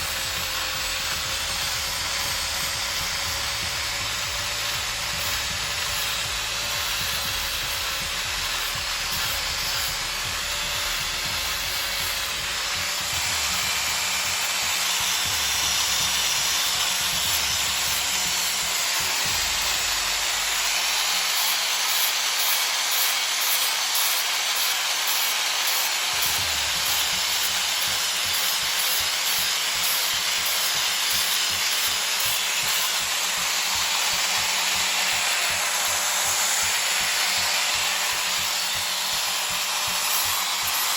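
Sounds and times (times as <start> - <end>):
power sander on wood: 0.0 - 40.9.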